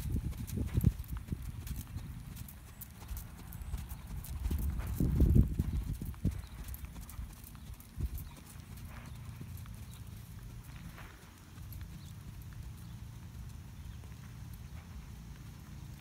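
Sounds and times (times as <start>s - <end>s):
horse trotting on sand: 0.0s - 16.0s
steady low rumble: 0.0s - 16.0s.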